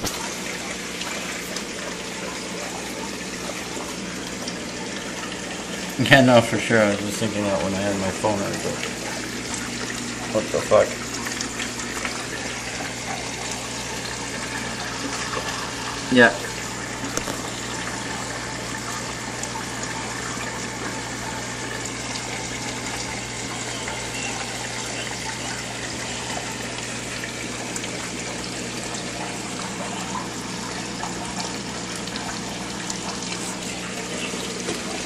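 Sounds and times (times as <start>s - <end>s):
pump motor hum: 0.0s - 35.0s
water splashing and trickling: 0.0s - 35.0s.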